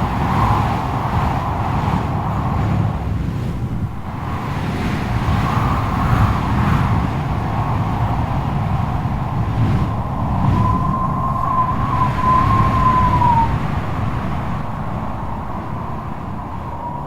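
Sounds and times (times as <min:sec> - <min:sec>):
strong wind howling: 0:00.0 - 0:17.0.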